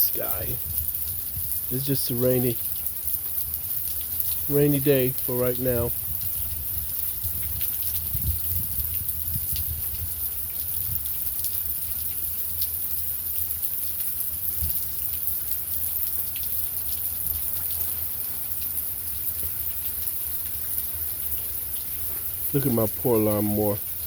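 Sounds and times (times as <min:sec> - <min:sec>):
heavy rain hissing: 0:00.0 - 0:24.0
raindrops tapping close by: 0:00.0 - 0:24.0.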